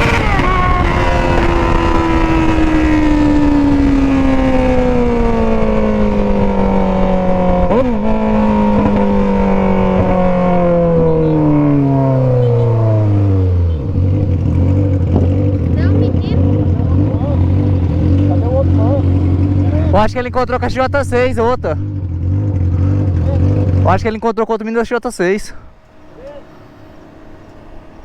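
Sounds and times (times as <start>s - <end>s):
motorcycle engine braking: 0.0s - 24.4s, 25.2s - 28.0s.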